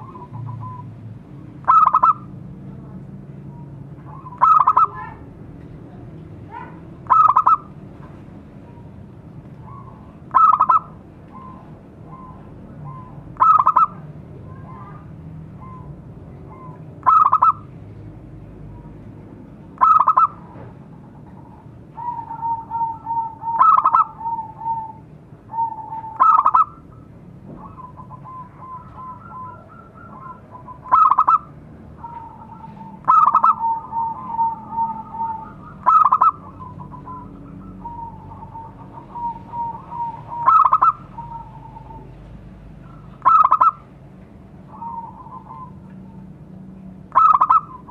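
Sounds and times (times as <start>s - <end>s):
dove cooing call: 0.0s - 1.0s, 1.6s - 2.4s, 3.5s - 5.2s, 6.5s - 7.8s, 9.6s - 17.8s, 19.7s - 43.9s, 44.6s - 46.4s, 47.0s - 47.9s.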